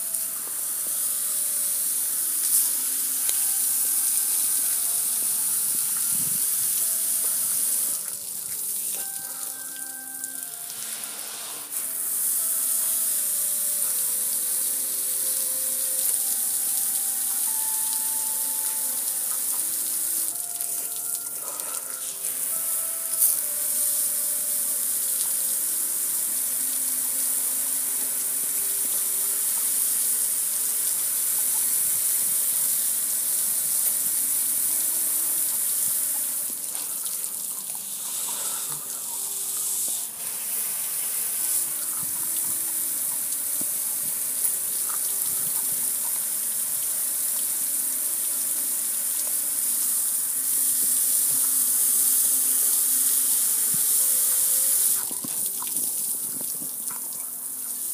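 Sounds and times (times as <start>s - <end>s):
hose water spraying on metal: 0.0s - 57.9s.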